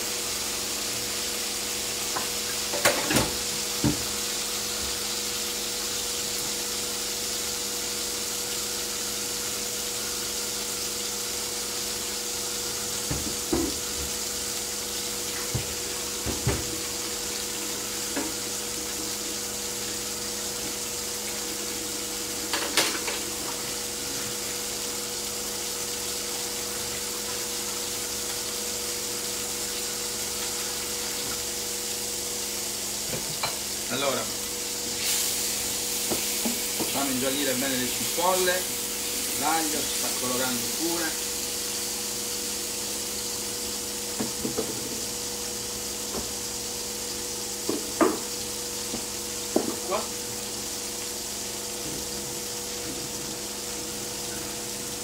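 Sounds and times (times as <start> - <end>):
onions sizzling in a pan: 0.0 - 55.0.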